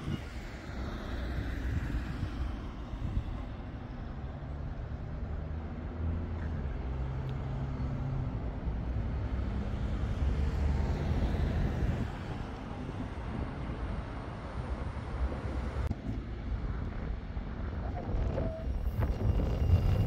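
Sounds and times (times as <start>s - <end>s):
road traffic: 0.0s - 20.0s
tram rumbling on track: 0.0s - 20.0s.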